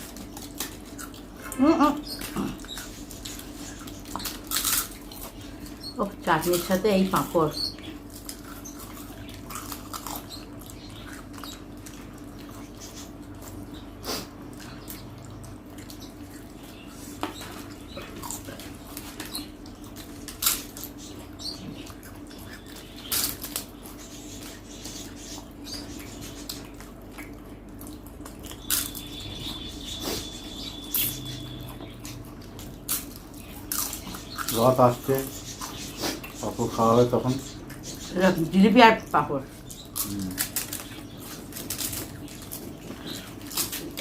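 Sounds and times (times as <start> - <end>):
crunching and chewing: 0.0 - 44.0.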